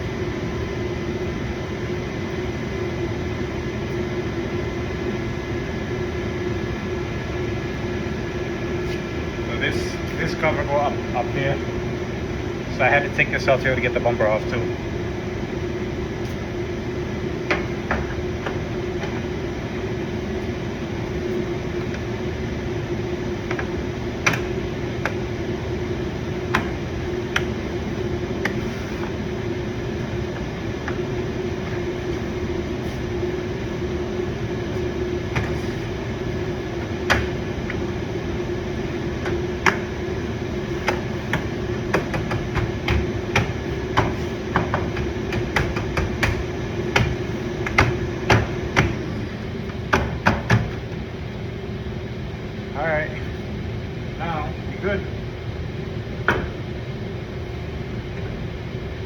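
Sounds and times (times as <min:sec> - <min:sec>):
steady droning hum: 0:00.0 - 0:59.0.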